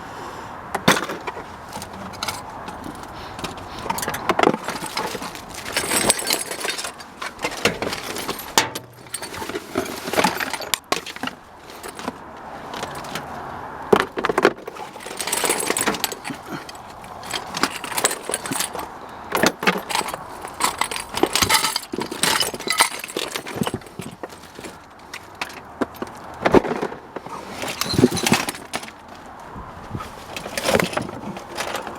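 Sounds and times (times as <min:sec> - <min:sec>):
metal scrap clinking and rattling: 0:00.8 - 0:29.3, 0:30.0 - 0:31.9.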